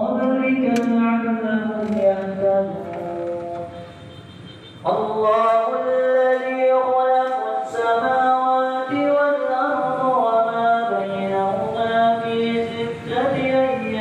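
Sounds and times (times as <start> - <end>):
man reciting melodically over loudspeaker: 0.0 - 14.0.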